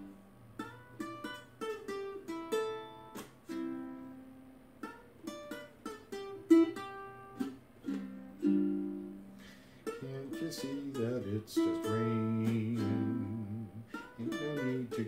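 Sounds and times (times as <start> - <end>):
ukulele plucking and strumming: 0.0 - 15.0.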